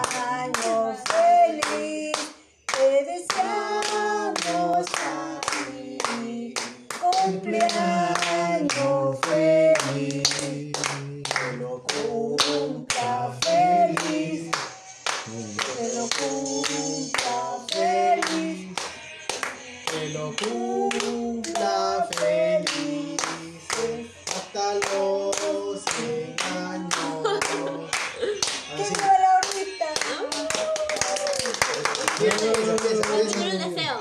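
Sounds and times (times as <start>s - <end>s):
group singing a birthday song: 0.0s - 30.6s, 31.4s - 34.0s
people clapping in time: 0.0s - 33.6s.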